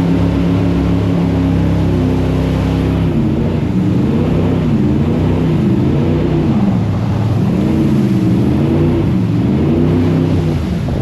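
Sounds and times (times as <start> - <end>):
jet boat engine revving: 0.0 - 11.0
wind and water rushing: 0.0 - 11.0.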